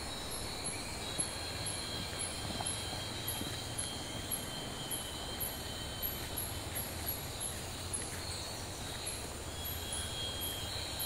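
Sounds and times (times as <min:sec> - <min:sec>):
faint high pulsing chirp: 0:00.0 - 0:11.0
insects buzzing: 0:00.0 - 0:11.0.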